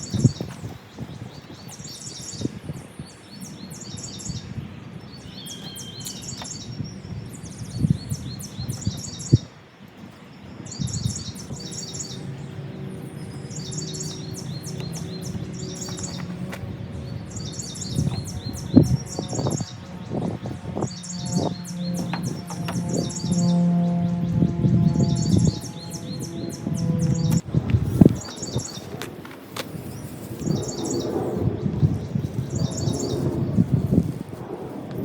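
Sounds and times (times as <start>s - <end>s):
bird chirping: 0.0s - 29.0s, 29.8s - 33.7s.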